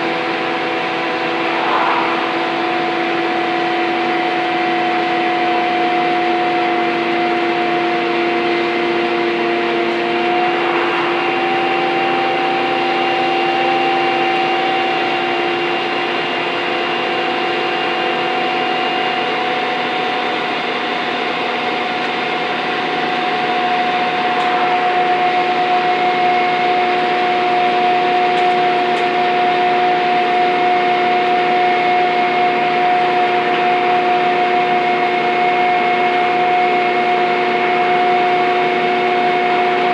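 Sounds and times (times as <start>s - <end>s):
bus engine working hard: 0.0s - 1.5s, 2.4s - 39.9s
high vacuum-like whine: 0.0s - 32.8s.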